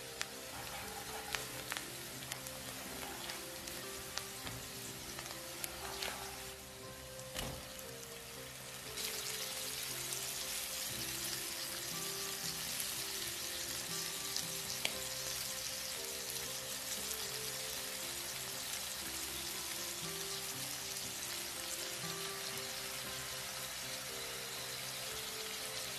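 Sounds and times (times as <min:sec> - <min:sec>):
shrimp sizzling in hot oil: 0:00.0 - 0:25.9
soft background music: 0:00.0 - 0:25.9.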